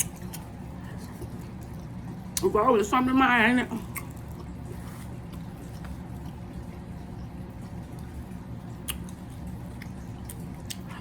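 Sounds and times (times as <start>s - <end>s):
wet chewing and squishing: 0.0s - 2.6s, 3.7s - 11.0s
low background hum: 0.0s - 11.0s.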